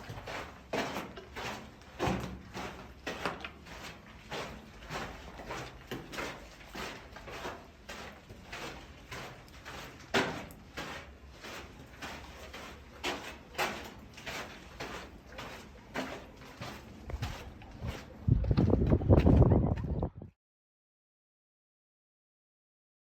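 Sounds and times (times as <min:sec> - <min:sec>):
footsteps on trail: 0:00.0 - 0:19.4.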